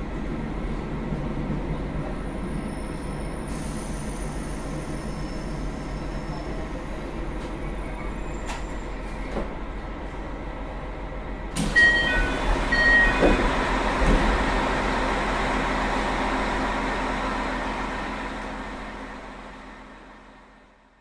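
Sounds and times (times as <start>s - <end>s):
railcar running noise: 0.0s - 21.0s.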